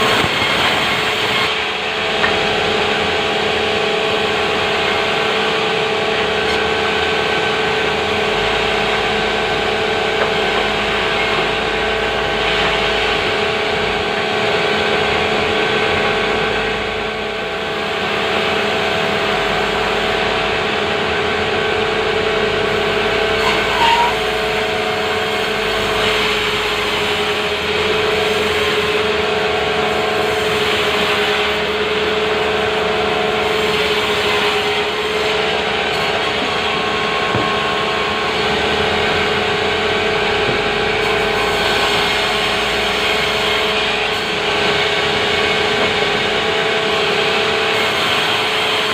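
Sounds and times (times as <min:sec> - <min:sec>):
sawmill machine drone: 0:00.0 - 0:48.9.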